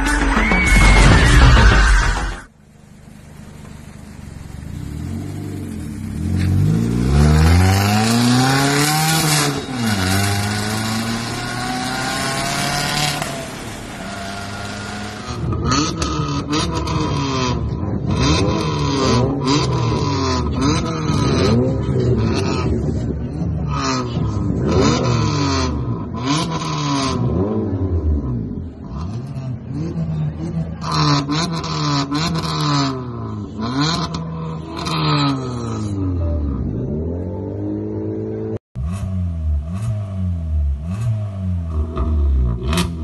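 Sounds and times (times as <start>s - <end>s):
loud car engine revving: 2.4s - 43.0s.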